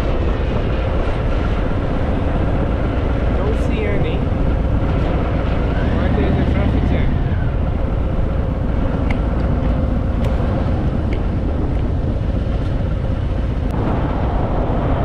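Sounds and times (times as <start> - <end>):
motorcycle engine running: 0.0 - 14.1
loud rush of microphone noise: 0.0 - 15.0.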